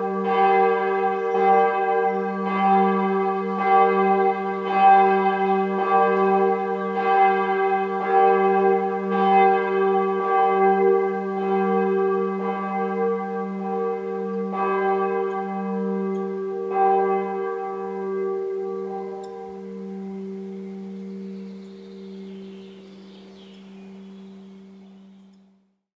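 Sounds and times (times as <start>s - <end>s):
church bell ringing: 0.0s - 25.4s.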